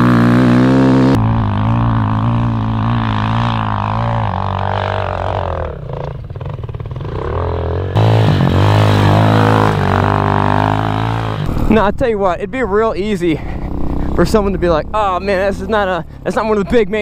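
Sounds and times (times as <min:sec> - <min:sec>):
dirt bike engine revving: 0:00.0 - 0:12.0, 0:13.4 - 0:16.7.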